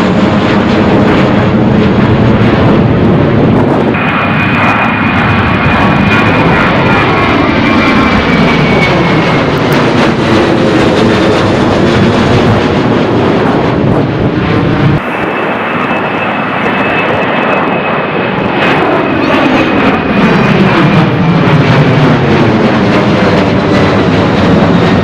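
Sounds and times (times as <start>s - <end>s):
high jet whine: 0.0s - 25.0s
jet airliner engines roaring: 0.0s - 25.0s.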